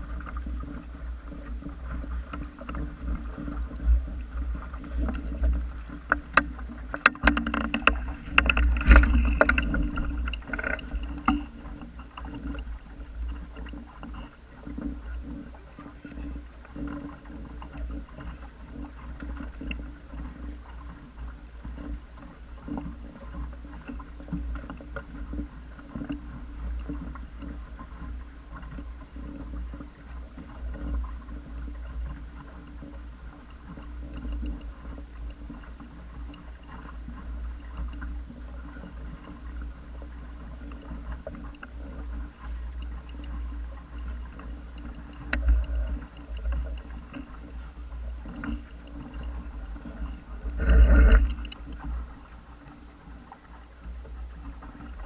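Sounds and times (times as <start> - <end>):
water lapping against hull: 0.0 - 55.0.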